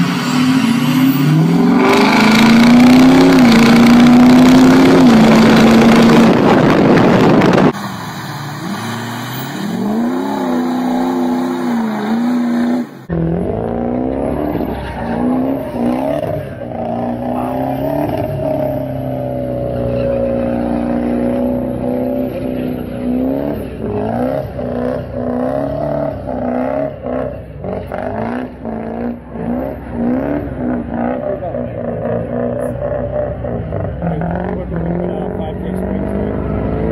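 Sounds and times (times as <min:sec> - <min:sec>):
diesel truck engine revving: 0:00.0 - 0:36.9.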